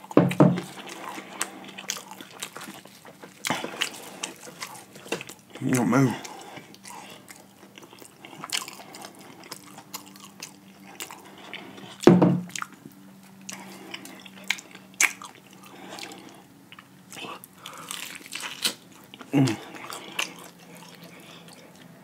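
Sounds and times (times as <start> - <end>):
crunching and chewing fried chicken: 0.0 - 22.0.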